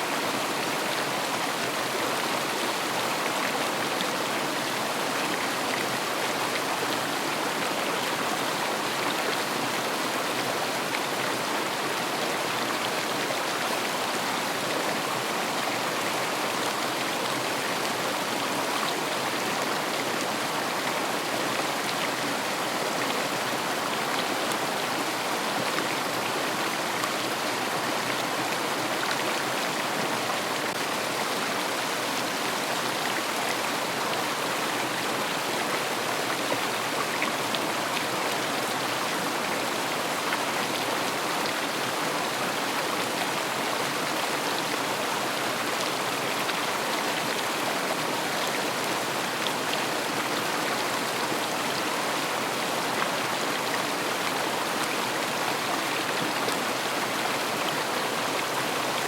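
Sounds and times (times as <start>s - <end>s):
river water rushing over stones: 0.0s - 59.0s.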